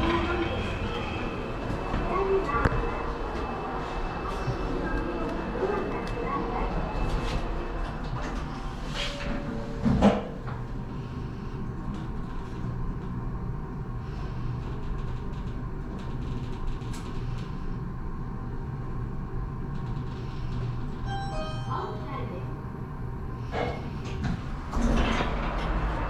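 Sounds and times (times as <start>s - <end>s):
elevator low hum: 0.0s - 26.0s.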